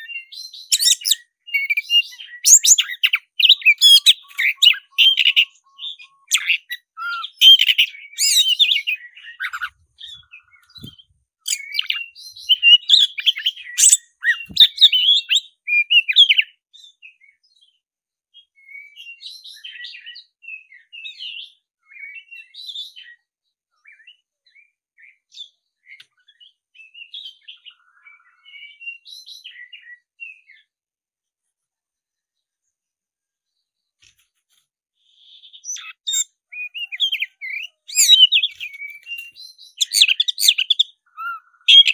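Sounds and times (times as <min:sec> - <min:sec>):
bird singing whistles and chirps: 0:00.0 - 0:30.7, 0:35.0 - 0:41.9.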